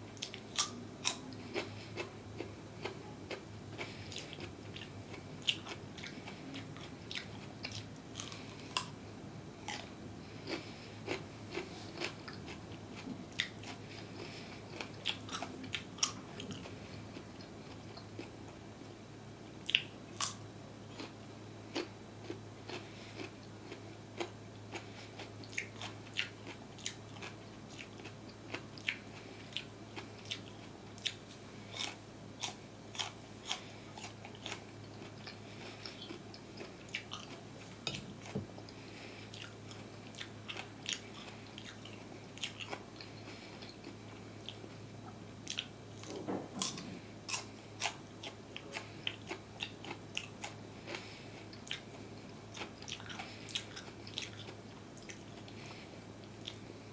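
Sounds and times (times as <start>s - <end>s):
crunchy food chewing: 0.2s - 18.7s, 19.6s - 56.9s.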